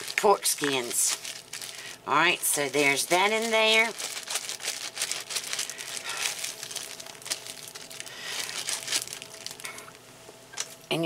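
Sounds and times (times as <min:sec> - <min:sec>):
plastic packaging crackling: 0:00.0 - 0:10.9.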